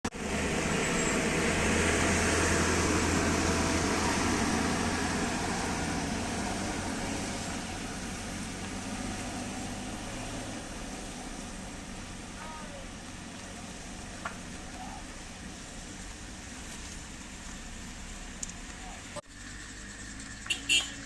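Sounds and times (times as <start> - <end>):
bus engine running hard: 0.0 - 21.0.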